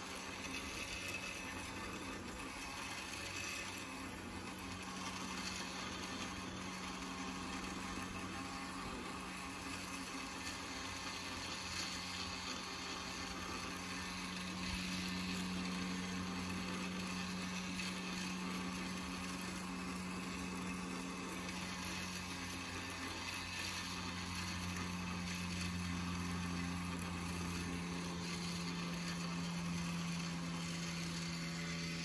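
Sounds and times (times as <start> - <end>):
electric tiller motor hum: 0.0 - 32.0.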